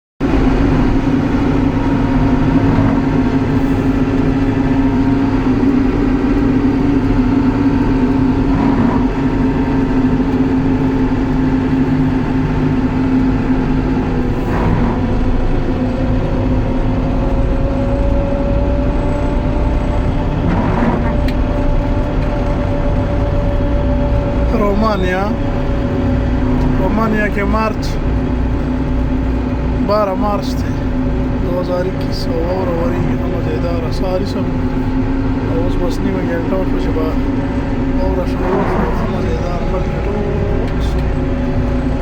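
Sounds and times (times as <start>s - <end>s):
diesel engine running: 0.2s - 42.0s.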